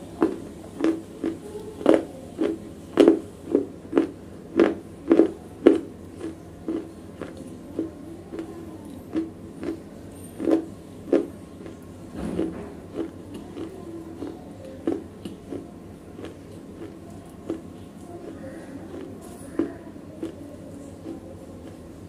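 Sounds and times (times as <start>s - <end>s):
crisp chewing crunches: 0.0s - 22.0s.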